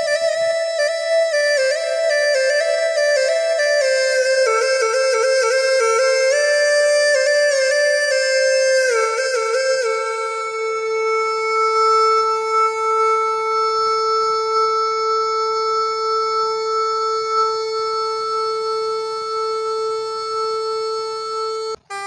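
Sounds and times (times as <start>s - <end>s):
bamboo free-reed pipe long note: 0.0s - 22.0s.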